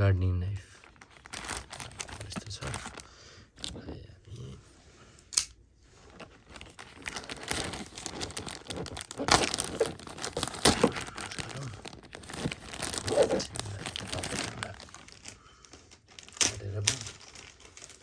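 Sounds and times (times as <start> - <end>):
packaging crinkling: 0.6 - 3.8, 6.0 - 18.0
packaging tearing: 0.8 - 3.8, 6.2 - 18.0.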